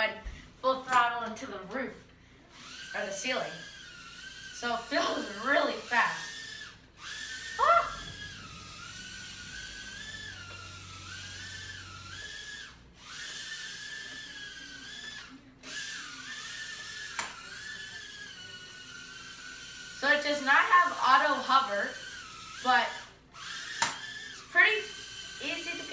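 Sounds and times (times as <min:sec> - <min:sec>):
quadcopter motors whining: 0:02.5 - 0:25.9.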